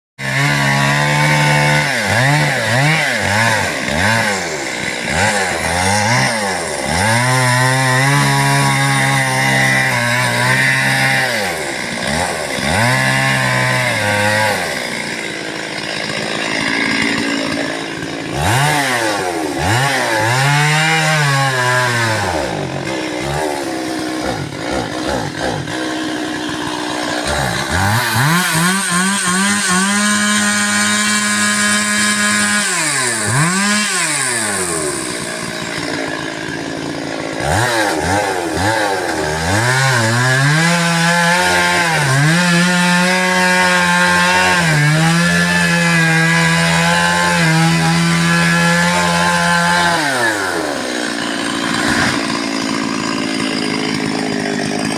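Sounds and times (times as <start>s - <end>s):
chainsaw revving and idling: 0.2s - 54.9s.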